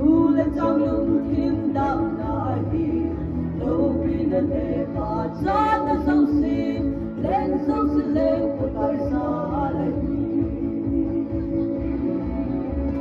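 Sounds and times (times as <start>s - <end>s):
musical accompaniment: 0.0s - 13.0s
woman singing into microphone: 0.0s - 13.0s.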